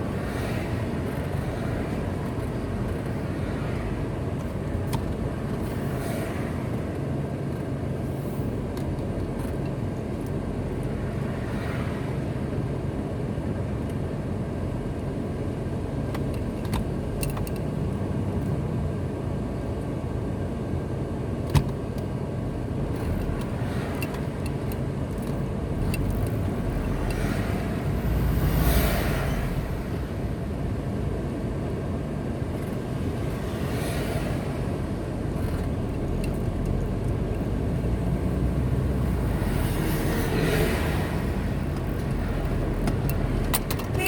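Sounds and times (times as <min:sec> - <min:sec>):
vehicles passing: 0:00.0 - 0:20.4, 0:22.0 - 0:44.0
car driving on highway: 0:00.0 - 0:44.0.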